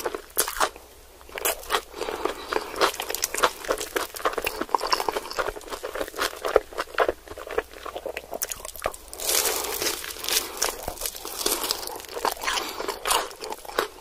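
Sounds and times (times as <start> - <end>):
chewing crispy food: 0.0 - 14.0.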